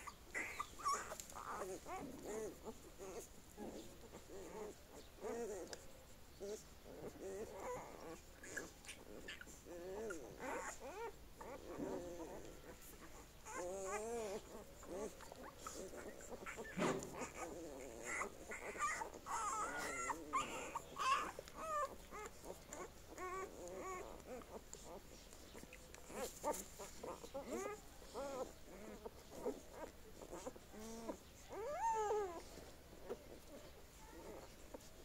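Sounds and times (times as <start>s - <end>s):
puppies whimpering and squeaking: 0.0s - 35.0s.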